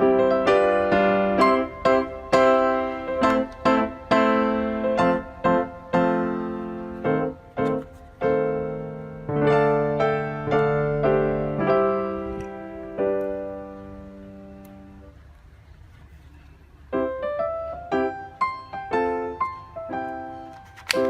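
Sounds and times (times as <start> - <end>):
piano music: 0.0 - 15.2, 16.8 - 21.0.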